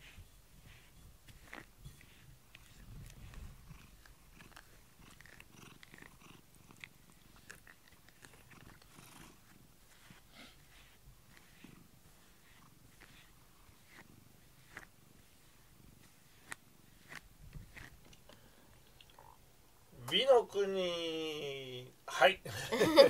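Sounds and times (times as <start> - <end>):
brush scratching on fur: 0.0 - 18.6
cat purring faintly: 0.0 - 19.5.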